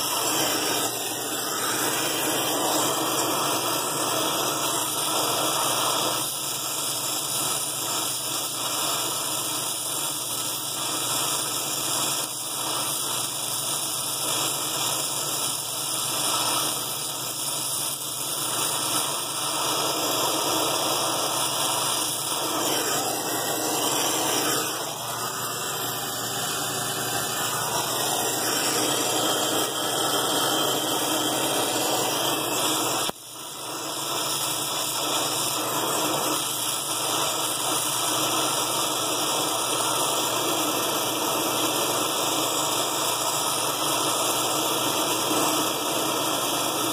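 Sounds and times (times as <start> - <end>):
torch flame hissing: 0.0 - 46.9.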